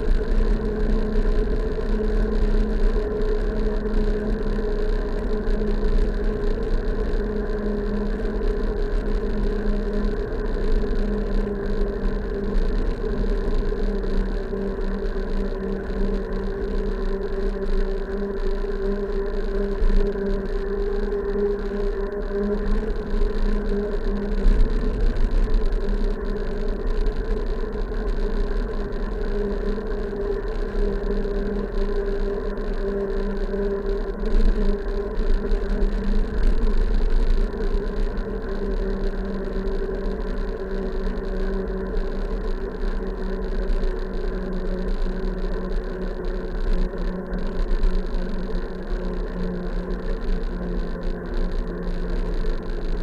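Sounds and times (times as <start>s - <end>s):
droning hum: 0.0s - 53.0s.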